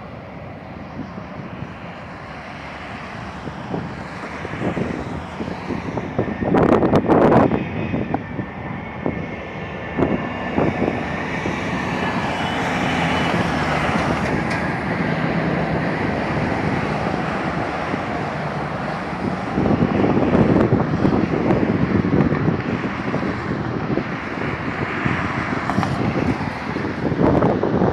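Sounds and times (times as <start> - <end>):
high engine whine: 0.0 - 27.9
jet engines roaring: 0.0 - 27.9.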